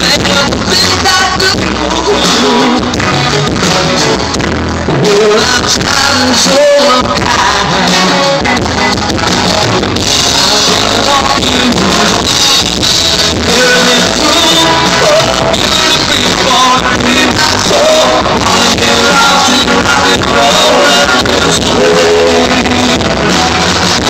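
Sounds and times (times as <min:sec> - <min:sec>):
person singing: 0:00.0 - 0:08.8, 0:10.0 - 0:24.0
live rock band playing: 0:00.0 - 0:24.0.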